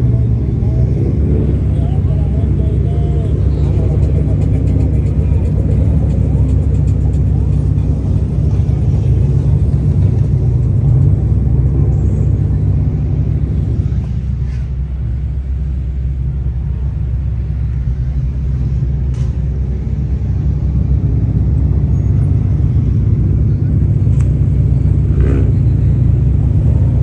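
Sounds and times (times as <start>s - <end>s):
car rumbling: 0.0s - 27.0s.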